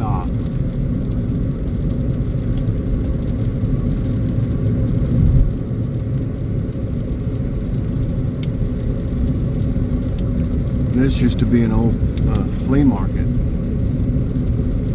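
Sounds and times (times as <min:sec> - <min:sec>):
car cabin road and engine rumble: 0:00.0 - 0:14.9.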